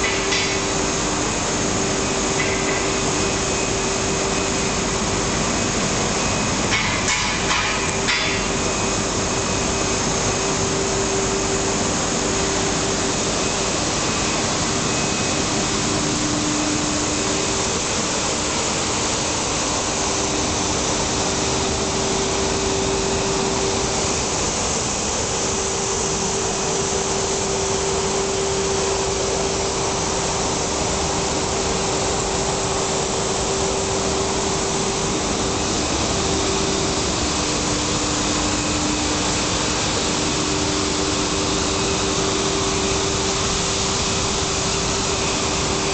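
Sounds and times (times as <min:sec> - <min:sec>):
machine humming: 0:00.0 - 0:45.9.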